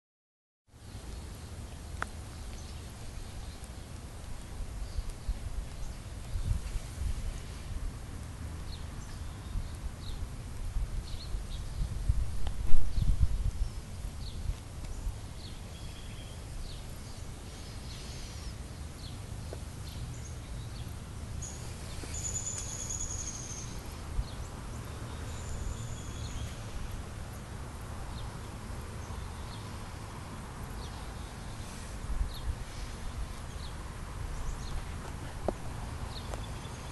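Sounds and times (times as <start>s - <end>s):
small birds chirping: 0.7s - 36.9s
low rumble on microphone: 0.9s - 36.9s.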